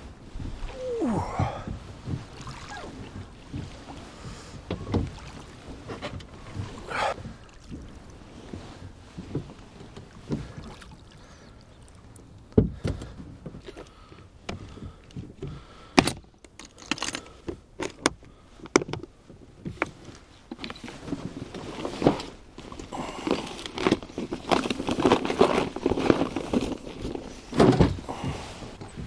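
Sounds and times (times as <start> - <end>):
gear clattering in a rowboat: 0.0 - 29.0.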